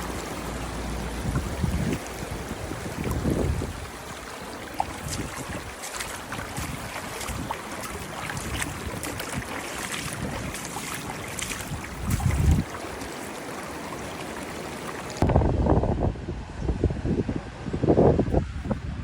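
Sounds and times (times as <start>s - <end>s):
wind rumble on microphone: 0.0s - 13.0s, 15.2s - 19.0s
water splashing and lapping: 0.0s - 15.3s.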